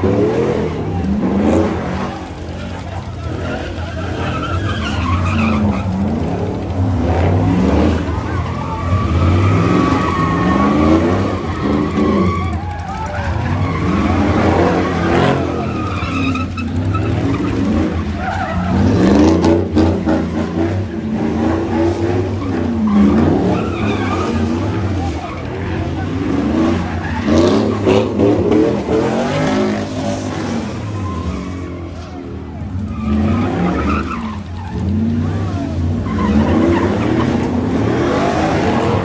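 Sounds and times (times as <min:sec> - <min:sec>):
car engines revving: 0:00.0 - 0:39.0
tyres skidding: 0:00.0 - 0:39.0.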